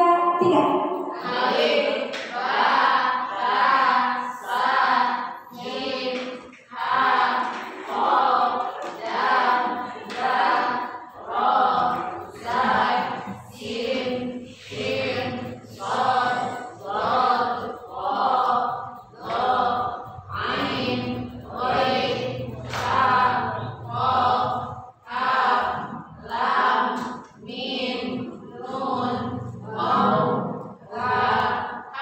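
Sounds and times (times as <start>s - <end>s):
group of voices chanting: 0.0s - 32.0s.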